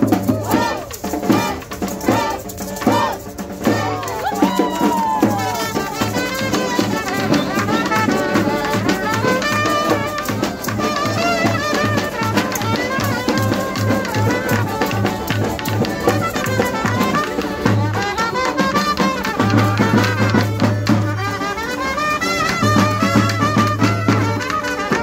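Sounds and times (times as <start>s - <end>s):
steady drum beat: 0.0s - 25.0s.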